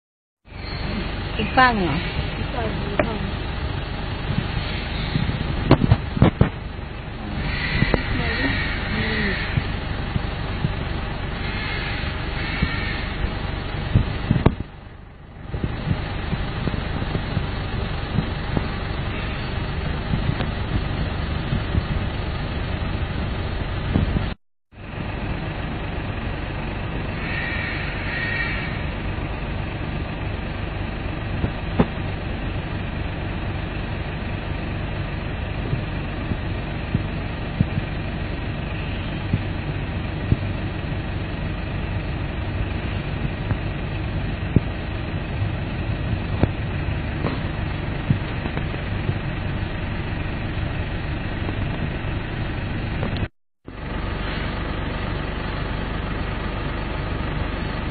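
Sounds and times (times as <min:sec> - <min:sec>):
low outdoor rumble: 0:00.4 - 0:57.9
vehicle engine idling: 0:00.4 - 0:57.9.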